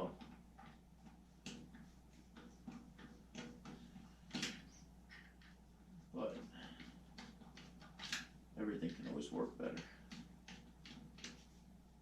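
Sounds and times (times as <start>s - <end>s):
faint clicks and knocks of tools: 0.0s - 11.7s.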